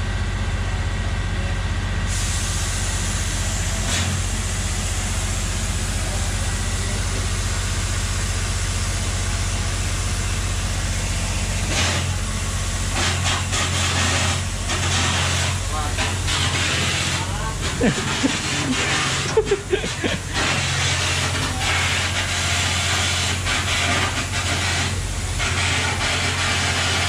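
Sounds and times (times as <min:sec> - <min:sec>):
diesel engine low hum: 0:00.0 - 0:27.0.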